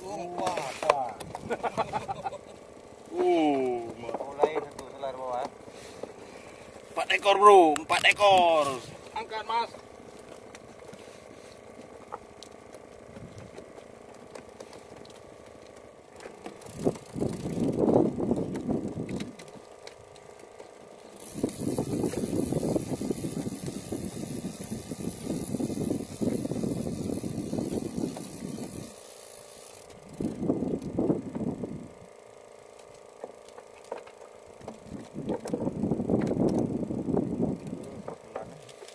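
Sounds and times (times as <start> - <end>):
fishing reel rattling: 0.0 - 5.6, 6.7 - 38.9
low hum: 0.0 - 38.9.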